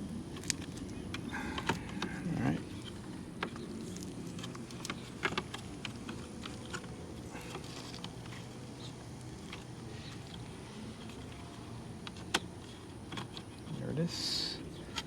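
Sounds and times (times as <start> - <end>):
low steady hum: 0.0 - 15.0
plastic clicks and crackles: 0.3 - 2.2, 2.8 - 13.8.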